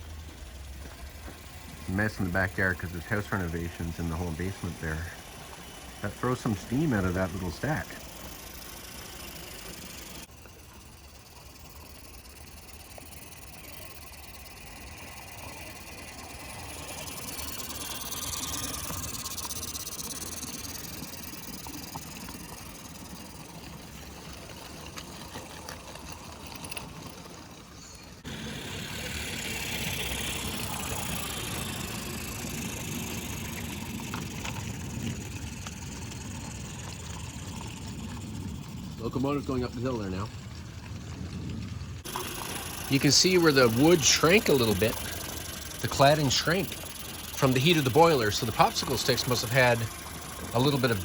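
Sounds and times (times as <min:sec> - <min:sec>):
steam hissing: 0:00.0 - 0:25.5, 0:27.8 - 0:39.7, 0:42.0 - 0:51.0.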